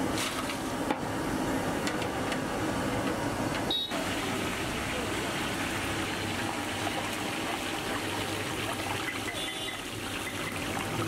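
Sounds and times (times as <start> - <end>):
potato slices deep-frying in oil: 0.0 - 11.0.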